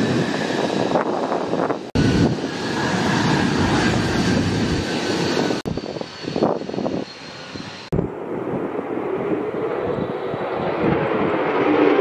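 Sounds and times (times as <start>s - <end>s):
jet engine roar with high whine: 0.0s - 12.0s.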